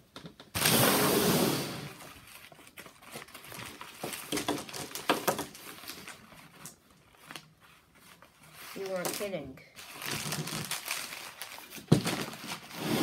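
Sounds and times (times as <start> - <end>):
paper bag rustling and crinkling: 1.9 - 13.0.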